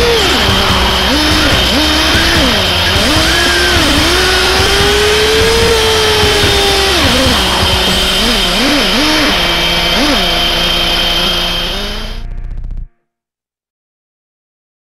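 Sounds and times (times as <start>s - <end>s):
two-stroke engine revving: 0.0s - 12.3s.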